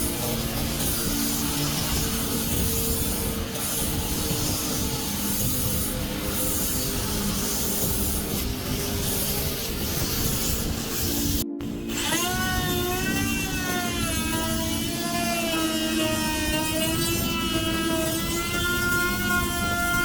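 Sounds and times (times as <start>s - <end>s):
power tool abrasive rubbing: 0.0s - 20.0s.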